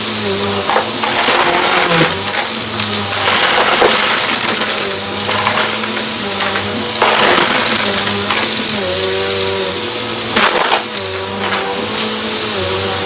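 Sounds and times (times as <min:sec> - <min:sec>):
debris crackling in vacuum: 0:00.0 - 0:13.0
vacuum cleaner running: 0:00.0 - 0:13.0.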